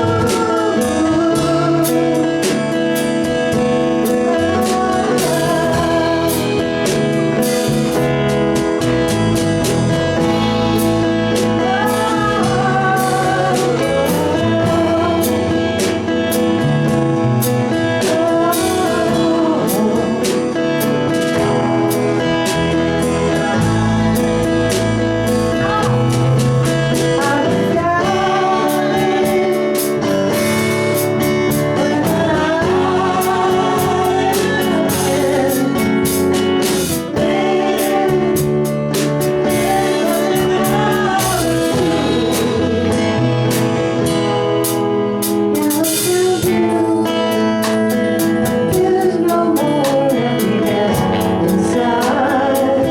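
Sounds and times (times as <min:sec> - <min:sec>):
guitar chords: 0:00.0 - 0:52.9
person singing: 0:00.0 - 0:52.9.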